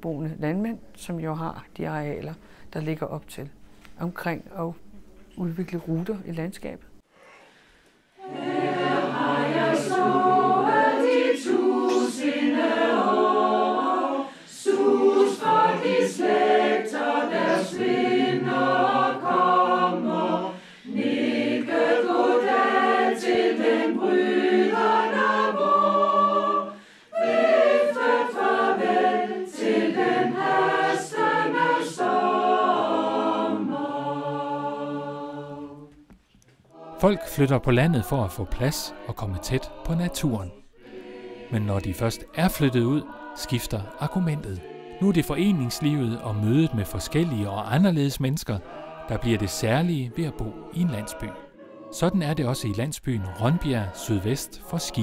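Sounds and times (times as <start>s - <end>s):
mixed choir singing: 8.2s - 36.0s, 36.7s - 55.0s.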